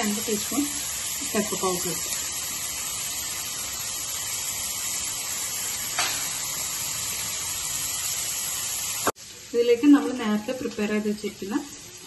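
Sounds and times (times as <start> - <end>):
mushrooms sizzling in frying pan: 0.0 - 12.0.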